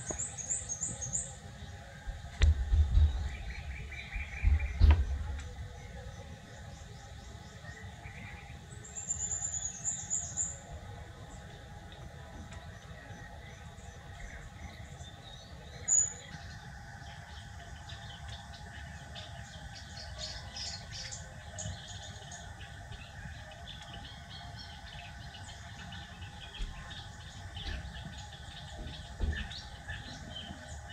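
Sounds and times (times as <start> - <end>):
small birds chirping: 0.0 - 30.9
steady low hum: 0.0 - 30.9.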